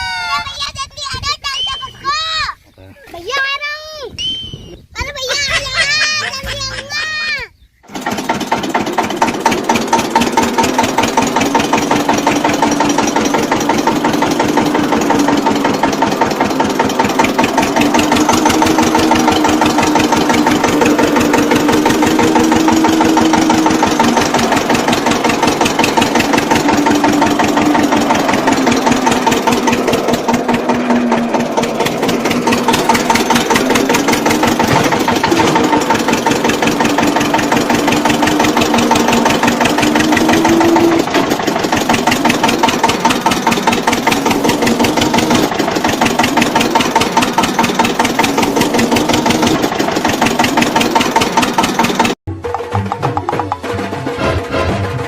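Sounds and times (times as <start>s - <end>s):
engine running with fast putter: 5.2s - 55.0s.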